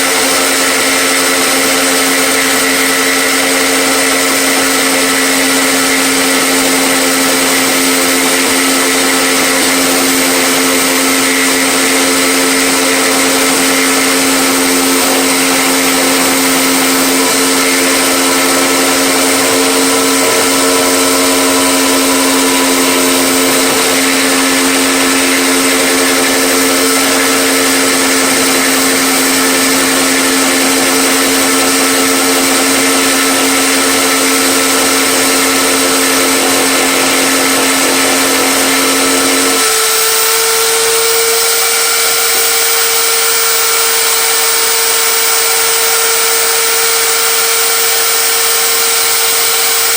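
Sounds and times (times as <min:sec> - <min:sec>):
power tool motor whining: 0:00.0 - 0:49.9.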